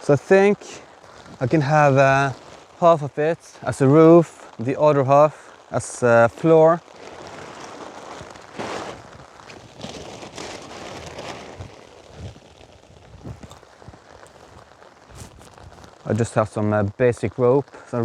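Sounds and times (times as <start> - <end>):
plastic tarp rustling: 0.0 - 18.0
rain pattering: 0.0 - 18.0.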